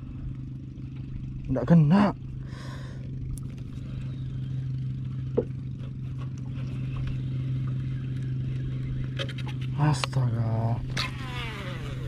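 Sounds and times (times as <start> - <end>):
motor running steadily: 0.0 - 12.0.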